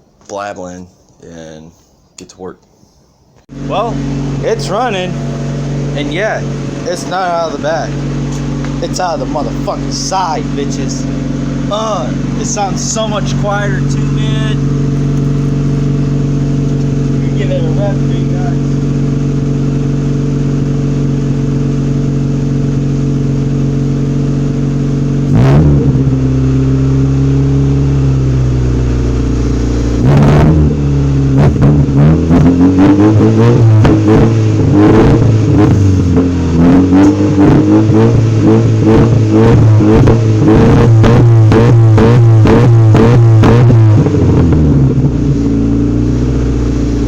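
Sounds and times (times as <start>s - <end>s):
car engine idling and revving: 3.5s - 47.0s.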